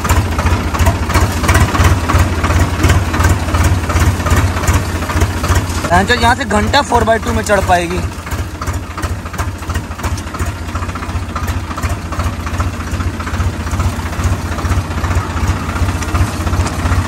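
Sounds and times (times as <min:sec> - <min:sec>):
tractor diesel engine chugging: 0:00.0 - 0:17.0.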